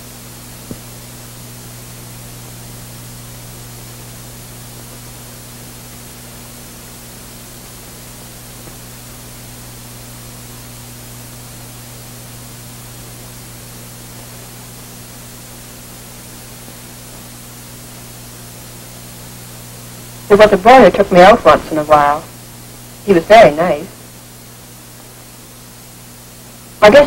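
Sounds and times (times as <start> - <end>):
low electrical hum: 0.0 - 27.0
steady hiss: 0.0 - 27.0.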